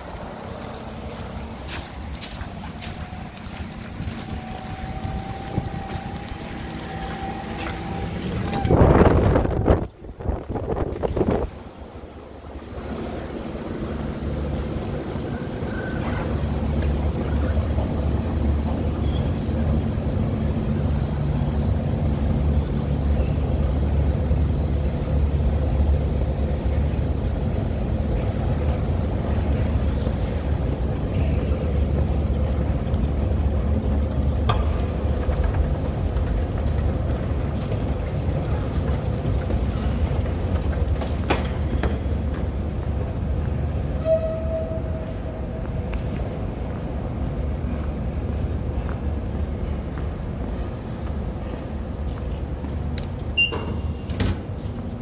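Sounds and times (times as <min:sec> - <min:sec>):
escalator rumbling: 0:00.0 - 0:55.0.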